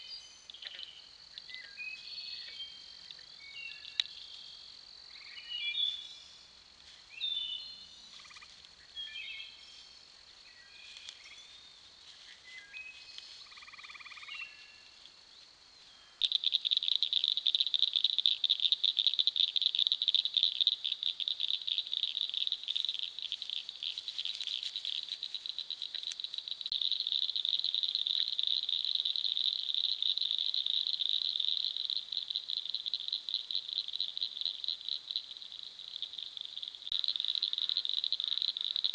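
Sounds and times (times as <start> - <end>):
faint high insect tone: 0.0 - 38.9
high-pitched pulsing insect trill: 7.2 - 38.9.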